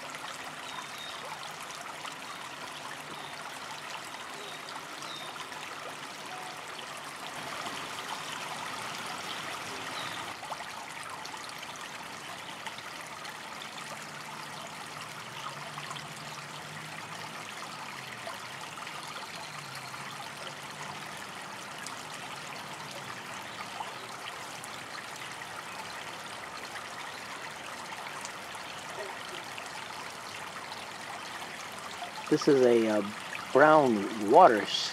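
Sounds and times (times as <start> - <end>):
creek trickling over rocks: 0.0 - 34.9.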